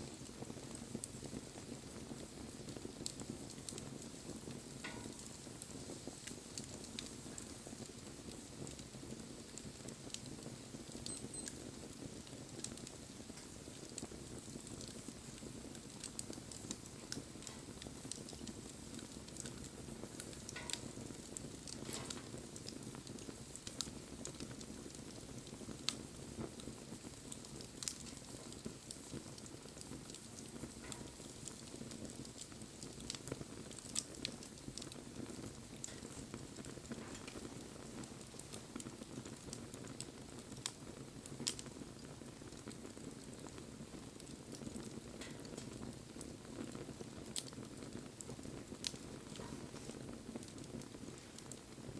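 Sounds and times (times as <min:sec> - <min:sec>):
bonfire flames rustling: 0:00.0 - 0:51.9
wood crackling and popping: 0:00.0 - 0:51.9.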